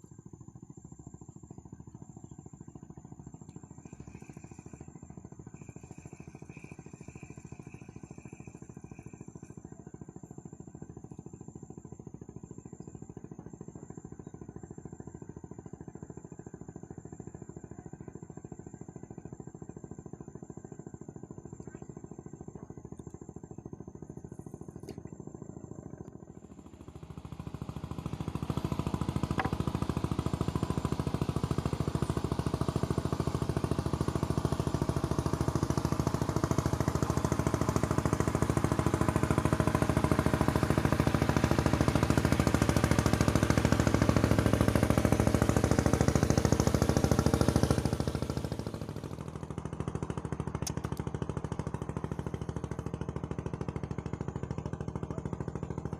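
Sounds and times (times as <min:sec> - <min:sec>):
small engine running: 0:00.0 - 0:55.9.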